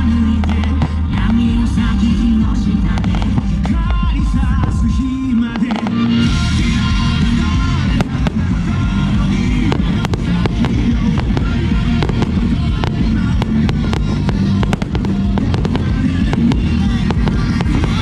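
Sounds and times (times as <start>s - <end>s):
background music: 0.0s - 18.0s
fireworks bangs and crackles: 0.0s - 18.0s.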